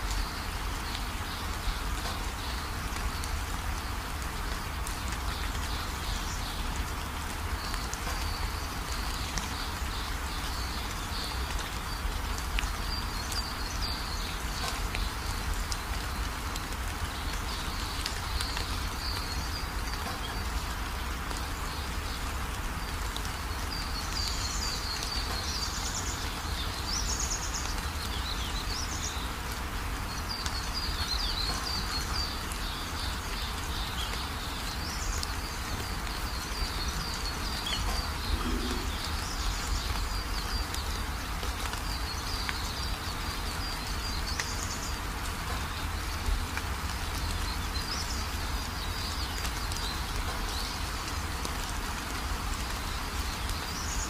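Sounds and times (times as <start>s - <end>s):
small birds chirping: 0.0s - 54.0s
steady hiss: 0.0s - 54.0s.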